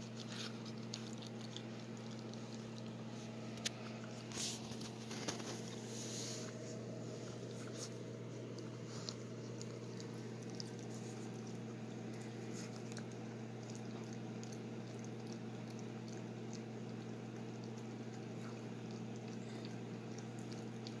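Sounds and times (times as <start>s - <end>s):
puppy chewing and licking: 0.0s - 21.0s
steady low hum: 0.0s - 21.0s.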